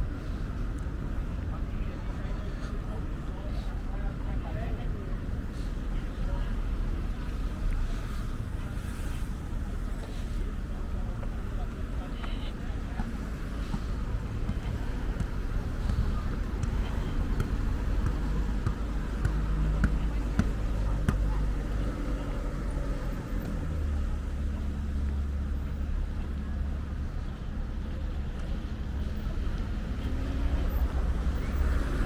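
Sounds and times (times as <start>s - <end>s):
passing road traffic: 0.0s - 32.0s.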